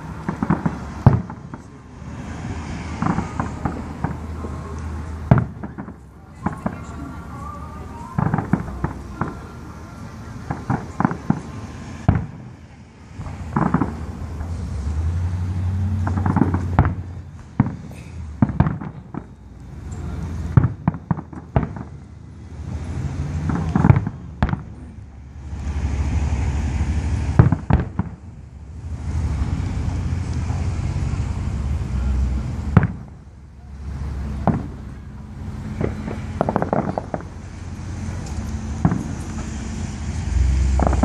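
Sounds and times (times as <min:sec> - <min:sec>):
firework shells booming: 0:00.0 - 0:14.8, 0:15.8 - 0:41.0.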